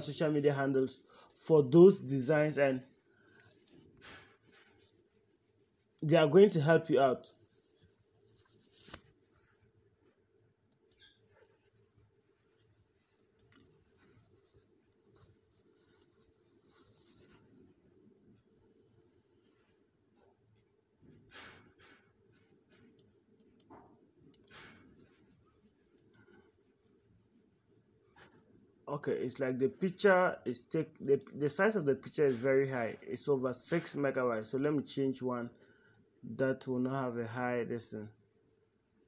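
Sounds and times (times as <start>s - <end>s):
insect chirping: 0.0s - 39.0s.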